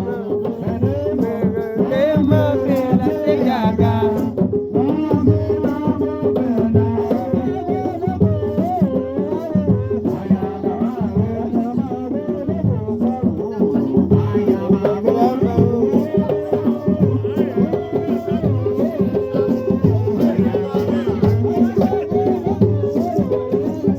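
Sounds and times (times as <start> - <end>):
drum percussion: 0.0 - 23.9.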